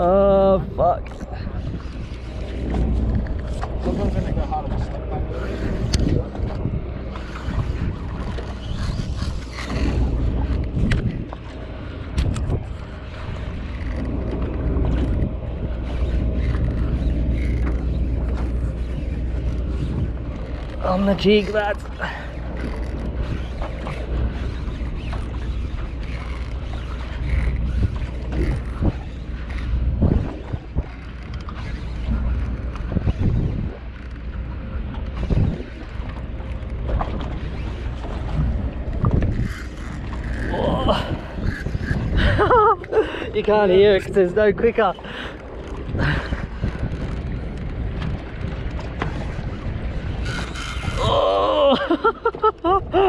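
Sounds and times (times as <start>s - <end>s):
choppy water: 0.0s - 53.0s
wind rumbling on microphone: 0.0s - 53.0s.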